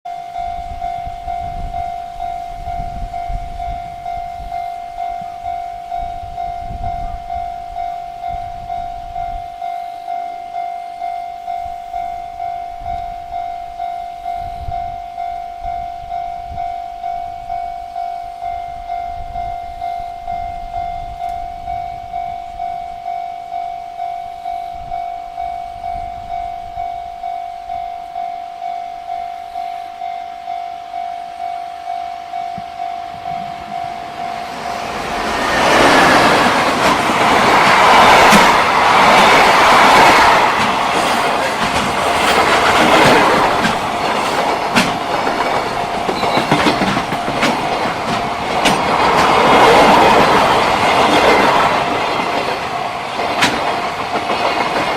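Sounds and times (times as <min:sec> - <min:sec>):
level crossing alarm ringing: 0:00.1 - 0:54.9.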